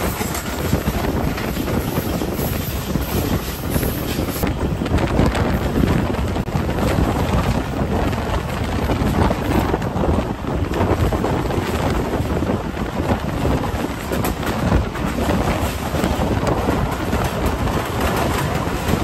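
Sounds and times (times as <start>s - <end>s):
train rumbling: 0.0s - 19.0s
wind buffeting microphone: 0.0s - 19.0s.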